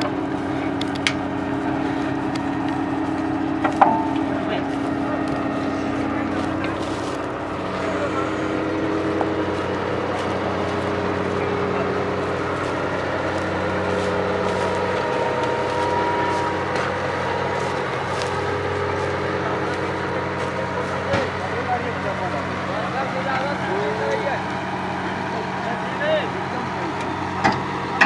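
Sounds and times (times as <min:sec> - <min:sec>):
drilling rig engine running: 0:00.0 - 0:28.0.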